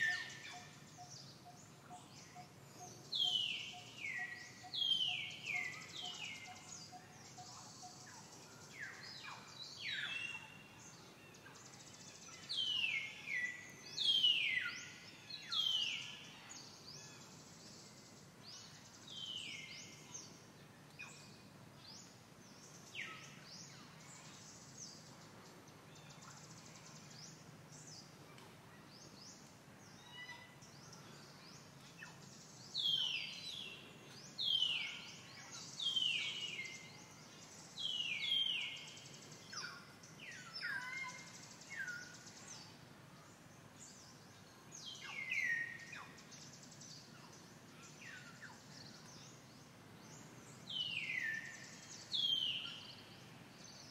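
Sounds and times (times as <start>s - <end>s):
faint outdoor background noise: 0.0s - 53.9s.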